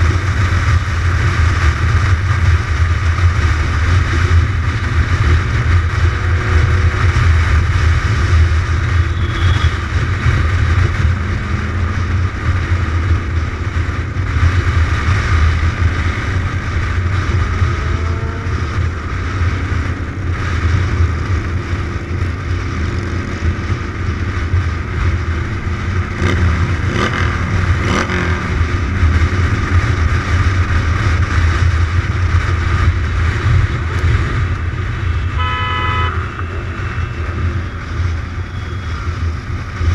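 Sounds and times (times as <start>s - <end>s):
motorcycle engine rumbling: 0.0s - 39.9s
wind noise on microphone: 0.0s - 39.9s.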